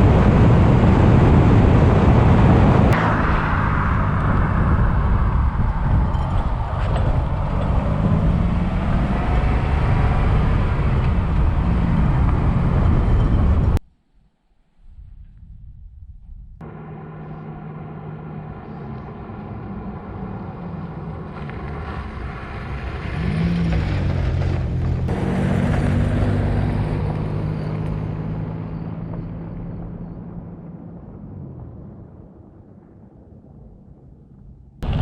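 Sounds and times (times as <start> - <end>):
engine running: 0.0 - 13.8, 16.6 - 31.6.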